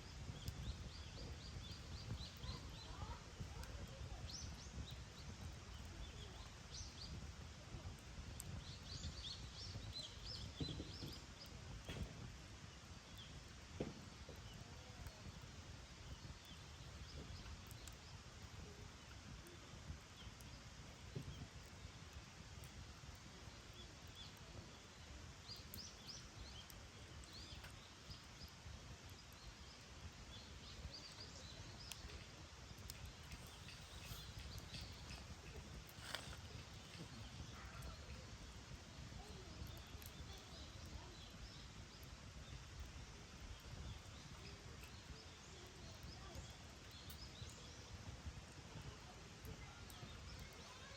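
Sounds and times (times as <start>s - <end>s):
campfire crackling: 0.0s - 50.9s
small birds chirping: 0.0s - 50.9s.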